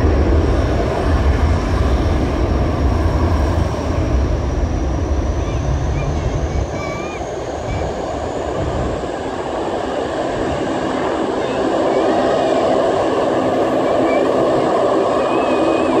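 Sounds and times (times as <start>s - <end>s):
jet engine rumble and hiss: 0.0s - 16.0s.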